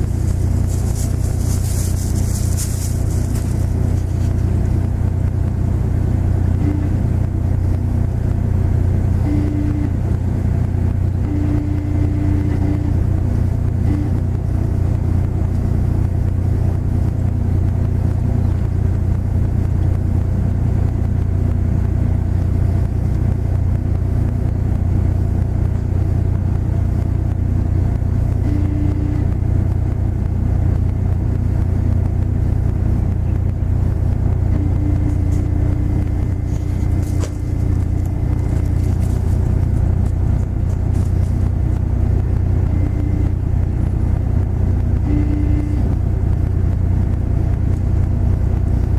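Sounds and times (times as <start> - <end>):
diesel engine droning: 0.0 - 48.9
higher hum: 0.0 - 48.9.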